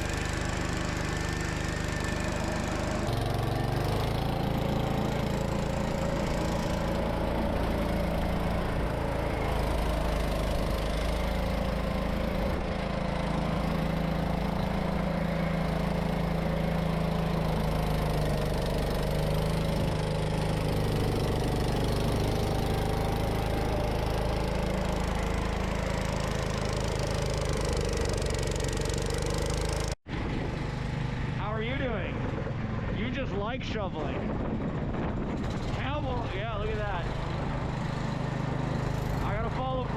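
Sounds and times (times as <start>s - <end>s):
snow blower engine running: 0.0s - 33.2s, 34.1s - 39.9s.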